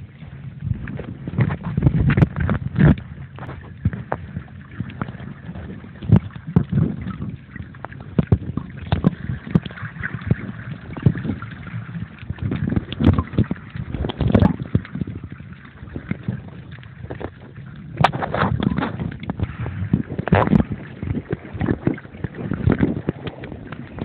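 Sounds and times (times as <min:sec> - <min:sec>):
muffled water sloshing: 0:00.0 - 0:24.0.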